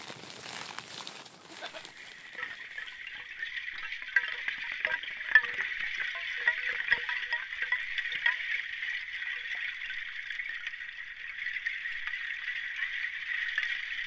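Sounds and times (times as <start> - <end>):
ice tinkling: 0.0 - 14.0.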